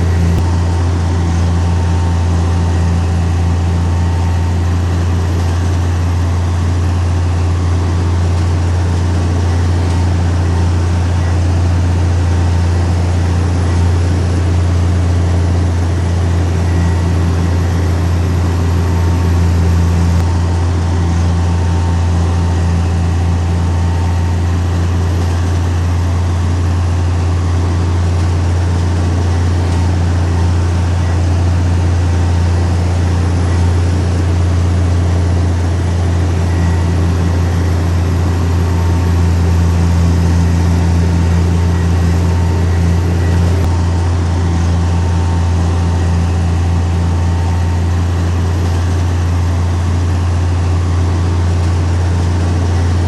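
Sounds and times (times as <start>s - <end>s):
diesel engine humming: 0.0s - 53.0s.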